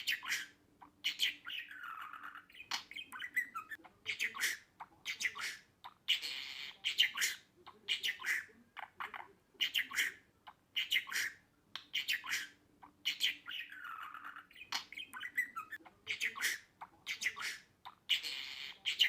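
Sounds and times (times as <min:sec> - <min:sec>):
budgerigar chattering: 0:00.0 - 0:19.0.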